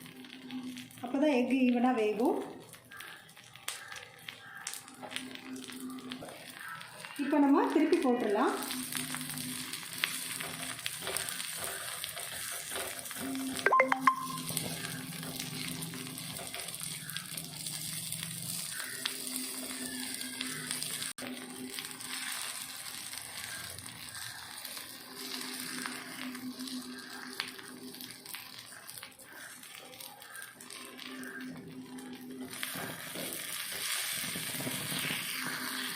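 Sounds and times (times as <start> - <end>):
batter sizzling in oil: 0.0 - 35.9.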